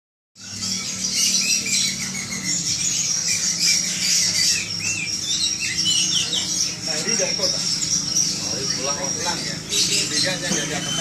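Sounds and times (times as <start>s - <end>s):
birds chirping and squawking: 0.4s - 11.0s
steady low hum: 0.4s - 11.0s.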